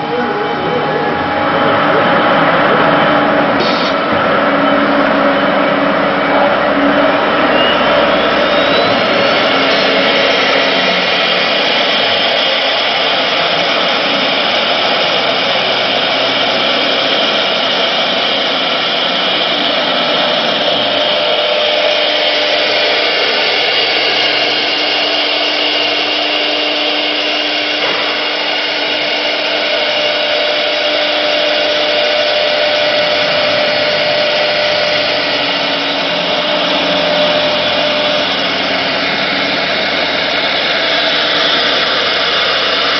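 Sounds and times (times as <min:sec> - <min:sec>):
cnc router spindle whining: 0:00.0 - 0:42.9
router bit cutting sheet: 0:00.0 - 0:42.9.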